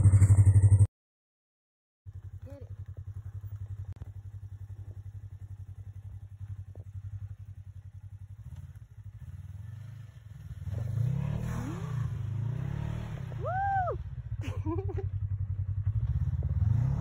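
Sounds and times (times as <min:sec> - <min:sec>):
engine idling and revving: 0:00.0 - 0:00.9, 0:02.1 - 0:17.0.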